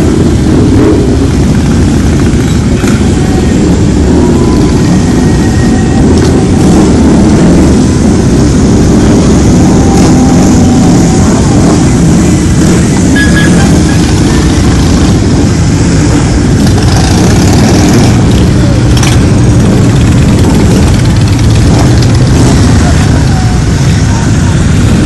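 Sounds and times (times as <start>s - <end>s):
motorcycles riding past: 0.0s - 25.0s.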